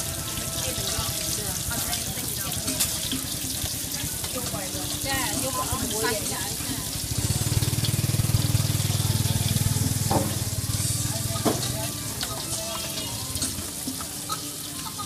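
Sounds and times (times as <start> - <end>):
hot oil sizzling and bubbling: 0.0 - 15.0.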